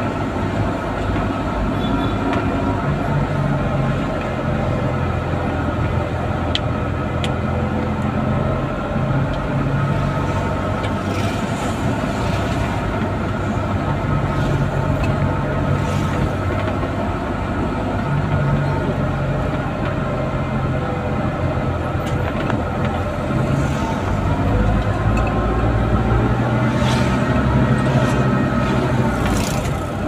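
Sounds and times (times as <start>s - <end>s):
road noise: 0.0s - 30.0s
vehicle engine running: 0.0s - 30.0s.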